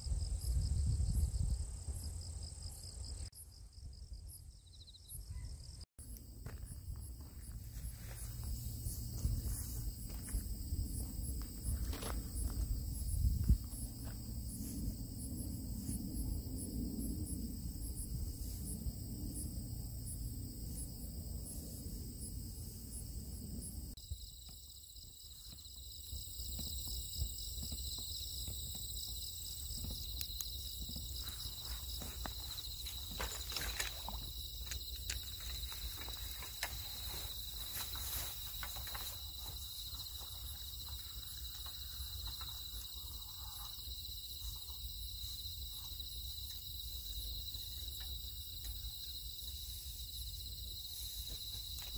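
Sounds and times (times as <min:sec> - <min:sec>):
pulsing insect chirp: 0:00.0 - 0:51.9
steady insect trill: 0:00.0 - 0:51.9.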